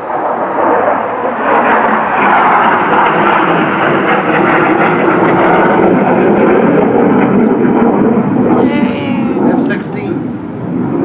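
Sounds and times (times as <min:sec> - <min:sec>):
fighter jet roaring overhead: 0:00.0 - 0:11.0.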